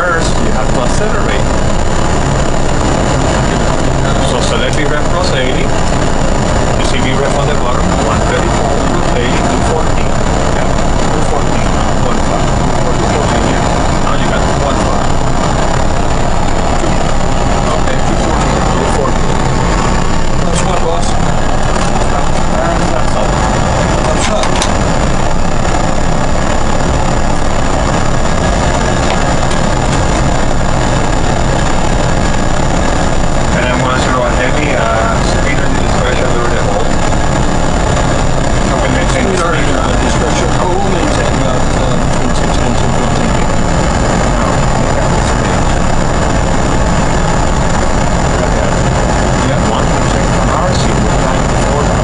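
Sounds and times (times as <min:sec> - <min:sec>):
airflow and engine rushing noise: 0:00.0 - 0:52.0
high-pitched whine: 0:00.0 - 0:52.0.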